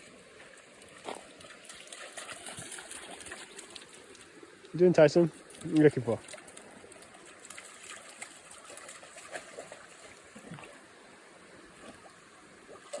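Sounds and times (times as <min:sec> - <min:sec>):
small water splashes: 0:00.0 - 0:13.0
stream trickling: 0:00.0 - 0:13.0.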